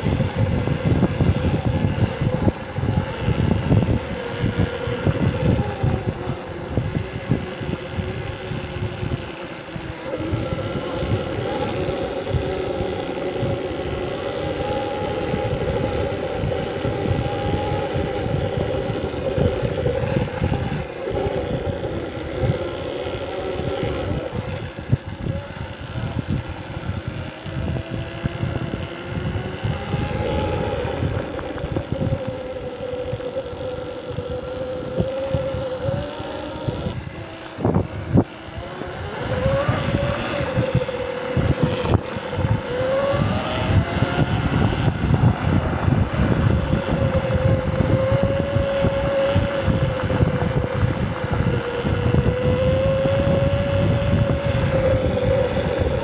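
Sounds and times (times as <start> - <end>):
electric motor whine: 0.0 - 56.0.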